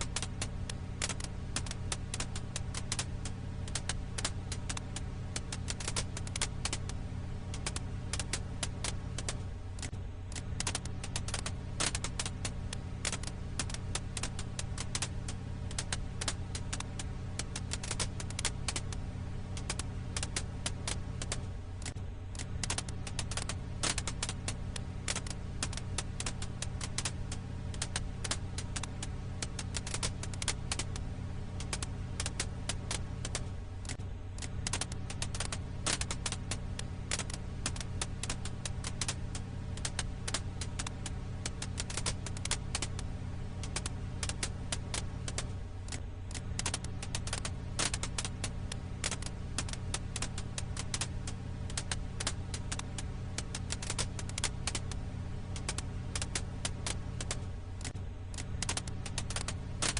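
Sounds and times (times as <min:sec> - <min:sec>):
campfire crackling and popping: 0:00.0 - 0:59.9
low hum: 0:00.0 - 0:59.9.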